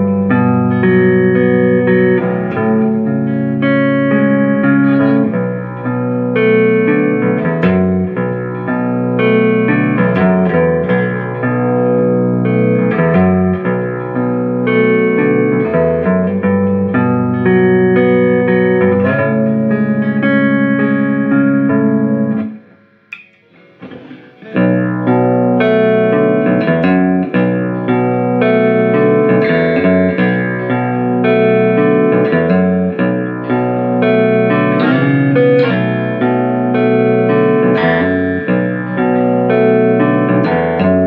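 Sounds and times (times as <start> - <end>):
electric guitar chords and notes: 0.0 - 41.0.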